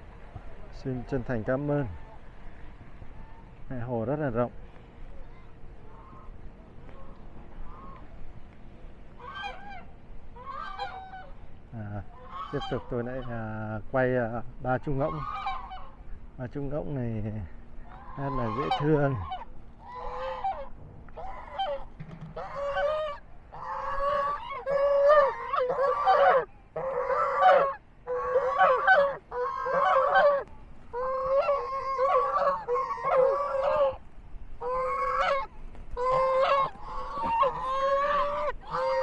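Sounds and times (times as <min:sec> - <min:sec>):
geese honking: 0:05.3 - 0:08.2, 0:09.1 - 0:39.0.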